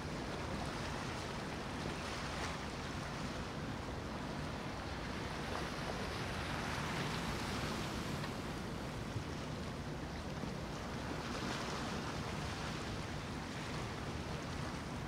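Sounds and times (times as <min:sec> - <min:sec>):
choppy water rushing: 0:00.0 - 0:15.0.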